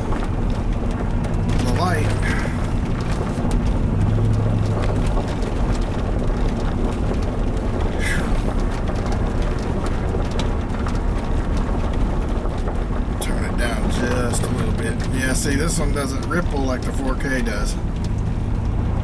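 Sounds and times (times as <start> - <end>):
low engine hum: 0.0 - 19.0
road rumble: 0.0 - 19.0.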